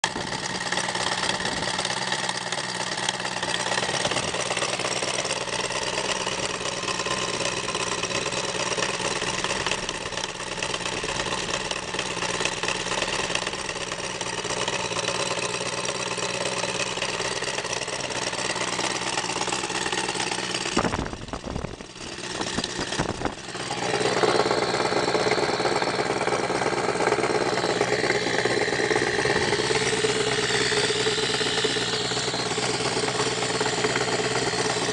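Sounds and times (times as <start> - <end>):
model radial engine running: 0.0 - 34.9.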